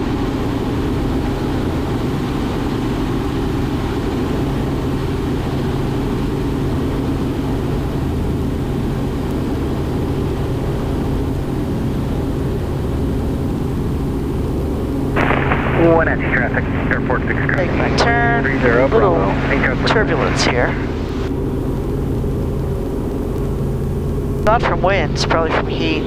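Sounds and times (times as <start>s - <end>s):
helicopter engine and rotors droning: 0.0s - 26.0s.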